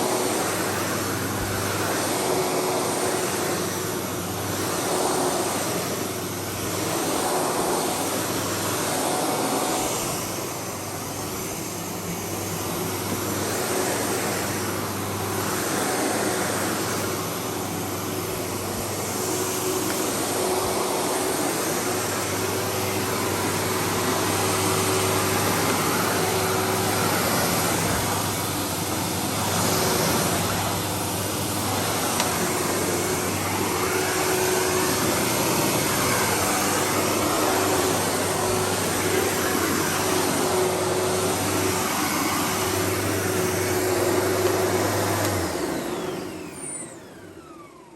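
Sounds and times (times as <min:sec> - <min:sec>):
vacuum cleaner on carpet: 0:00.0 - 0:47.9.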